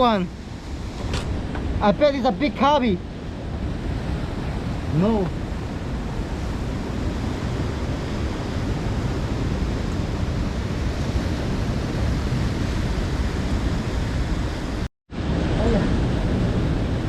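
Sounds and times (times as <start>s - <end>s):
ocean surf washing in: 0.0s - 17.0s
wind rumbling on microphone: 0.0s - 17.0s.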